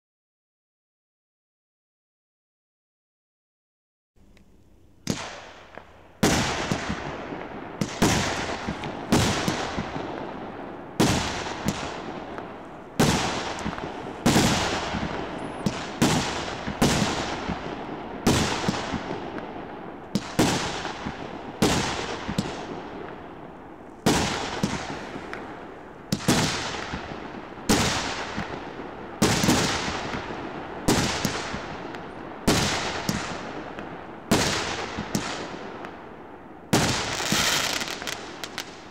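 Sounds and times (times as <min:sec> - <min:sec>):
firework bangs: 0:05.0 - 0:36.0, 0:36.7 - 0:38.9.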